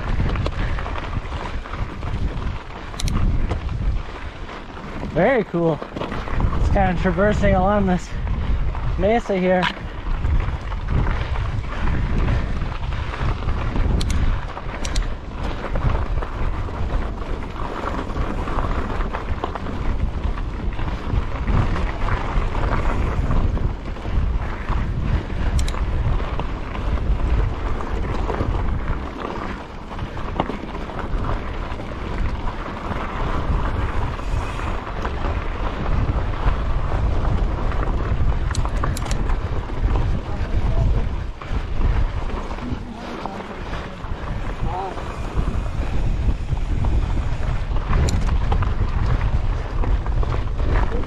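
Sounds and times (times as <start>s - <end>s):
bike rattling over rock: 0.0s - 51.0s
bike tyres rolling over rocky trail: 0.0s - 51.0s
wind buffeting microphone: 0.0s - 51.0s.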